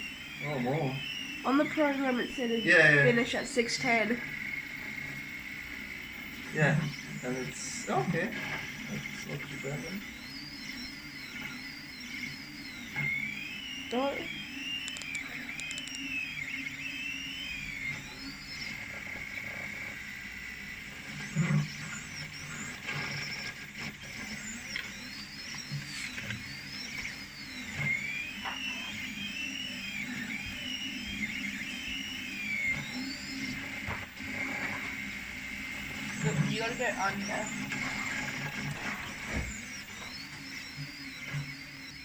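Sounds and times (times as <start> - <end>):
stepper motors whining: 0.0 - 42.0.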